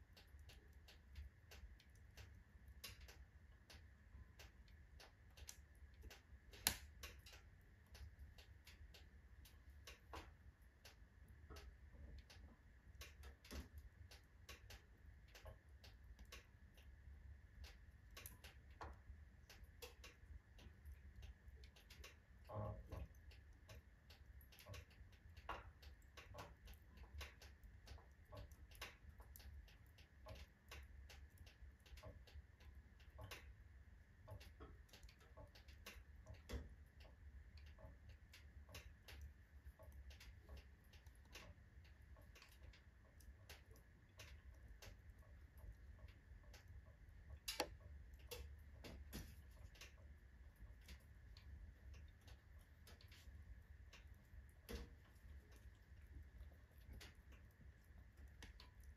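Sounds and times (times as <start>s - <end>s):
low steady hum: 0.0s - 58.9s
wood fire crackling: 0.0s - 58.9s.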